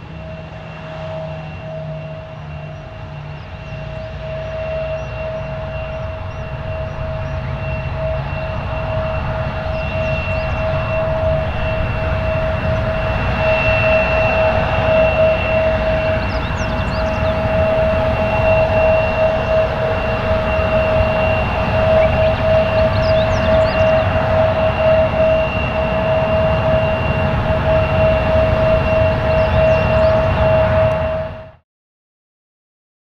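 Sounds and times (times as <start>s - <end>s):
jet engines running: 0.0s - 31.6s.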